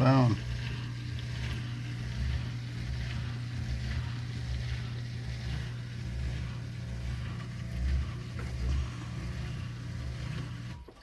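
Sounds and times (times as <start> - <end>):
dishwasher drain pump humming: 0.0 - 11.0.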